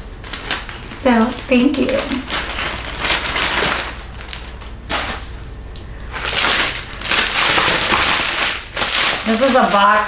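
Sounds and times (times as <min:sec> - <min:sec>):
cardboard box and wrapping rustling: 0:00.3 - 0:05.3, 0:06.1 - 0:10.0.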